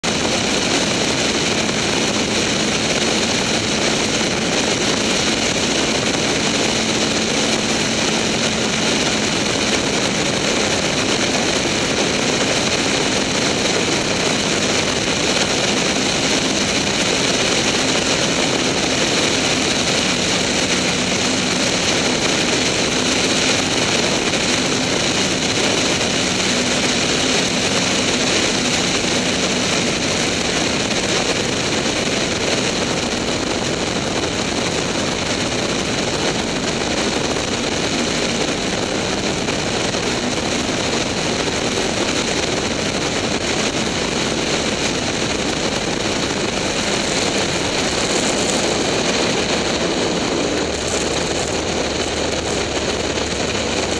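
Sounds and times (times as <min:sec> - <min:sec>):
airplane engine and propeller drone: 0:00.0 - 0:53.9
heavy rushing wind: 0:00.0 - 0:53.9.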